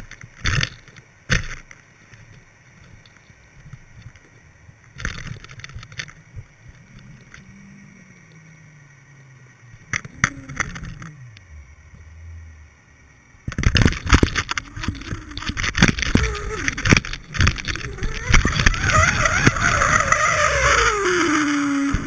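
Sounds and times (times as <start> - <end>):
low underwater hum: 0.0 - 22.0.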